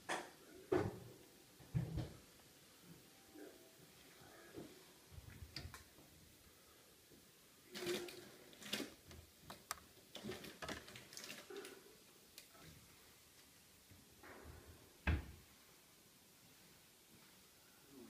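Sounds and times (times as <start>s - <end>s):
low hiss: 0.0s - 18.0s.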